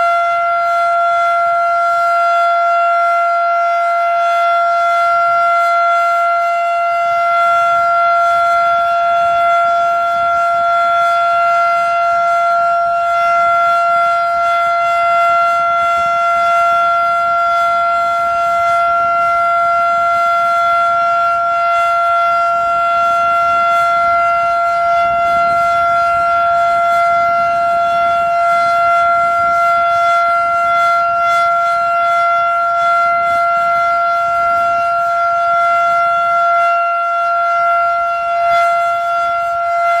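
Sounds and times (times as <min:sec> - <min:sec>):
steady warning siren tone: 0:00.0 - 0:40.0.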